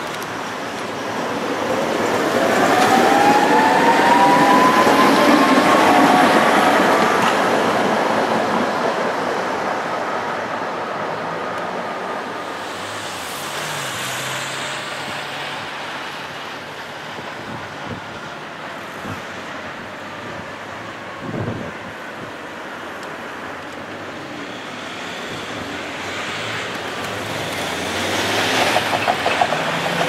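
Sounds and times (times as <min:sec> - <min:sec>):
street traffic: 0:00.0 - 0:30.0
tram passing: 0:00.0 - 0:30.0.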